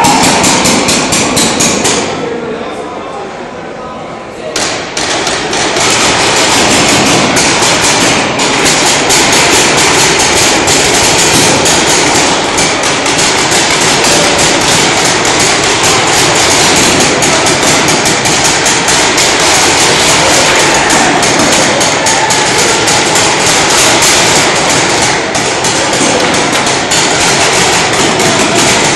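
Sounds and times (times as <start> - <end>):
paintball markers firing rapidly: 0.0 - 2.1, 4.6 - 28.9.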